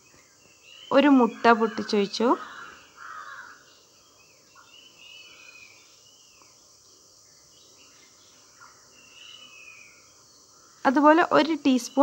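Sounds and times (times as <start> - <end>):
faint drawn-out bird calls: 0.0 - 12.0
low steady hiss: 0.0 - 12.0.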